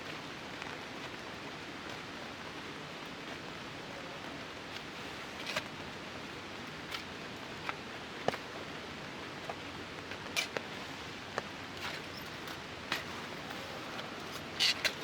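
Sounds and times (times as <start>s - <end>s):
rain hissing: 2.4s - 15.0s.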